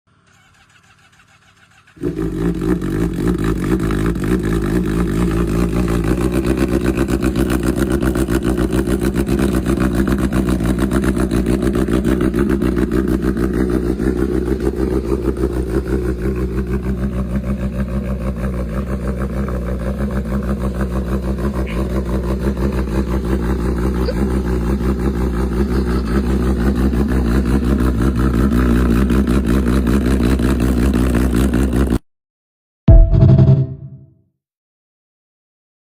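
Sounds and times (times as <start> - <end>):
motorcycle engine running: 0.1 - 32.0.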